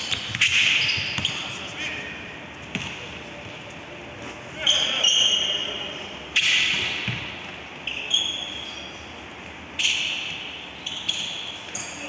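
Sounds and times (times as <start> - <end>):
shoes squeaking on court floor: 0.0 - 12.0.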